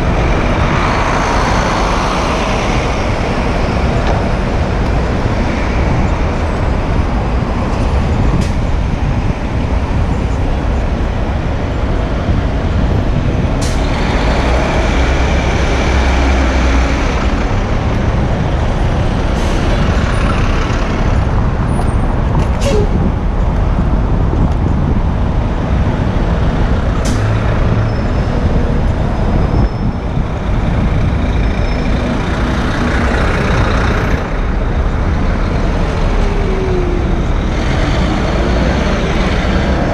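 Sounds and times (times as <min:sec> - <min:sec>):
heavy city traffic: 0:00.0 - 0:39.9
wind rumbling on microphone: 0:00.0 - 0:39.9.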